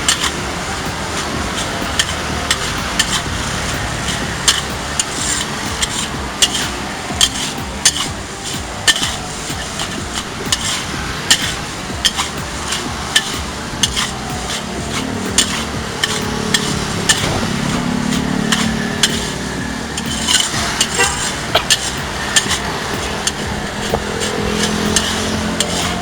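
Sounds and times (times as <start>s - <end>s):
food sizzling: 0.0s - 26.0s.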